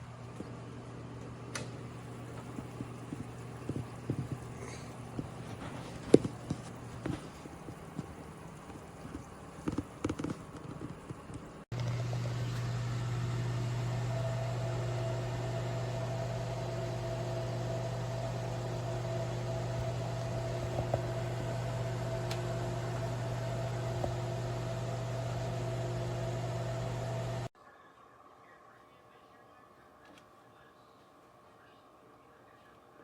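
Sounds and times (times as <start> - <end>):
air fryer oven fan hum: 0.0 - 27.5.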